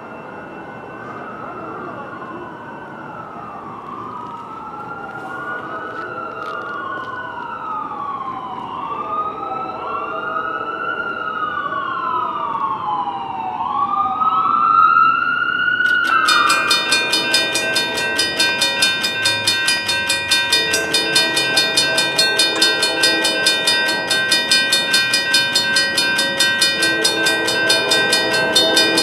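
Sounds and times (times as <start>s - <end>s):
siren wailing: 0.0s - 29.0s.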